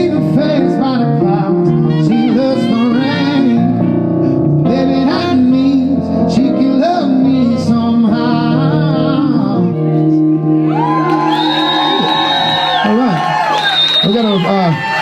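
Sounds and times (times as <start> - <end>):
wordless lead melody: 0.0 - 12.5
backing music: 0.0 - 14.6.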